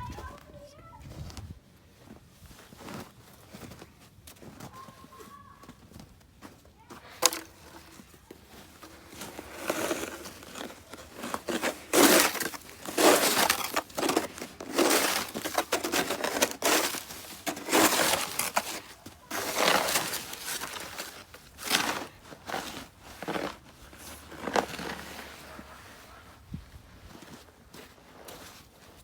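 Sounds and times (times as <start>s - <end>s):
packed snow crunching: 1.9s - 29.0s.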